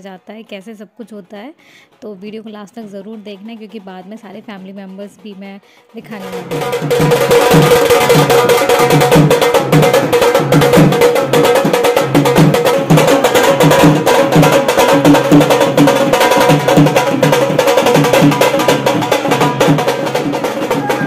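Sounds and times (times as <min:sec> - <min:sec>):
loud dhol drumming: 0:03.2 - 0:21.0.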